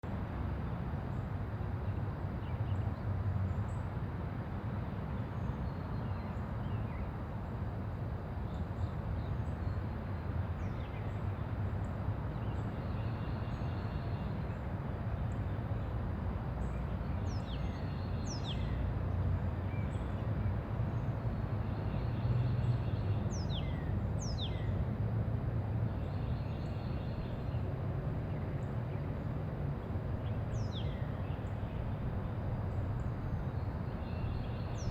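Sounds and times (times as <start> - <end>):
distant traffic rumble: 6.4 - 34.9.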